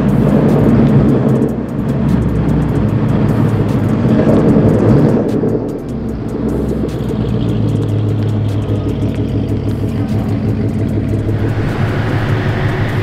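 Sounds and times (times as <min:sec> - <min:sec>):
car engine idling low: 0:00.0 - 0:13.0.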